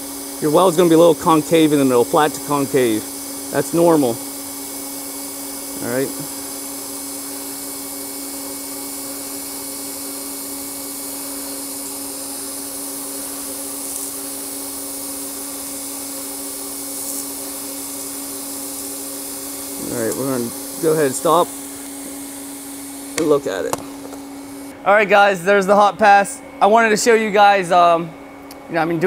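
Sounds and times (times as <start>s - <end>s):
welding arc hissing: 0.0s - 24.8s
steady hum: 0.0s - 29.0s.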